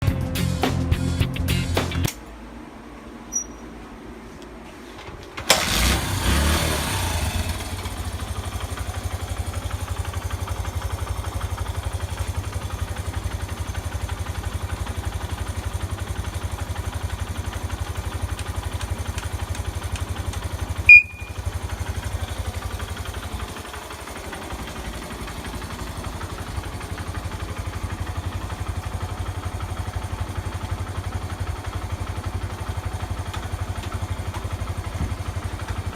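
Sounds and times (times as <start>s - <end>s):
motorbike engine starting and idling: 4.8s - 35.9s.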